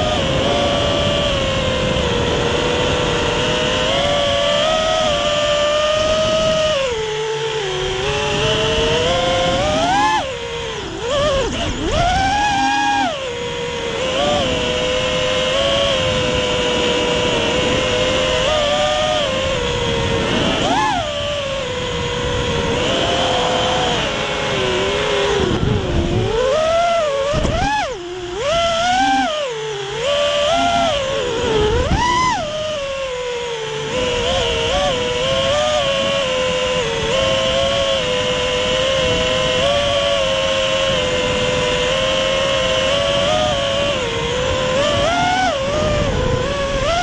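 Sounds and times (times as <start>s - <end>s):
drone motors whining: 0.0s - 47.0s
wind noise on microphone: 0.0s - 47.0s.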